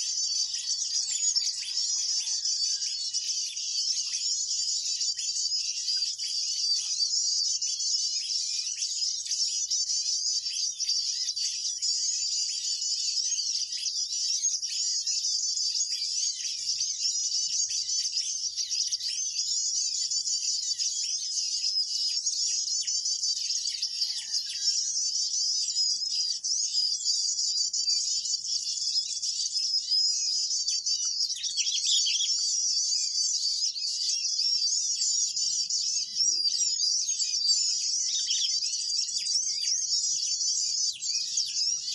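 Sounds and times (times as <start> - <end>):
many small birds chirping: 0.0 - 41.9.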